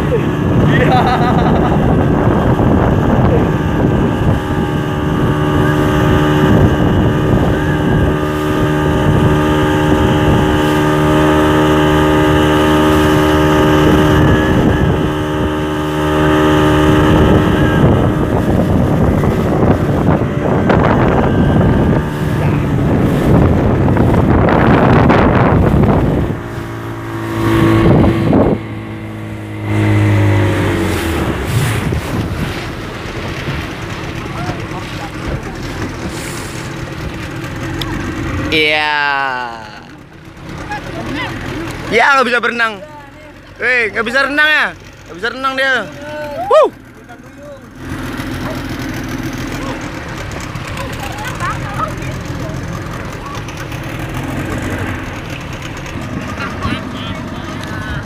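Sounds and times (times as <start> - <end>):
wind buffeting microphone: 0.0 - 38.7, 46.3 - 58.0
rush of water: 0.0 - 58.0
speedboat engine running: 0.0 - 58.0.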